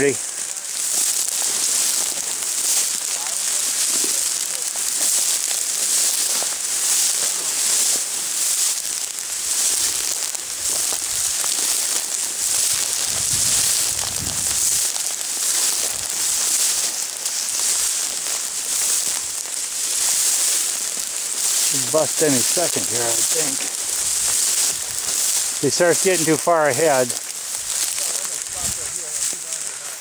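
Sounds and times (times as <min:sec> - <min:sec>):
dry grass swishing against legs: 0:00.1 - 0:30.0.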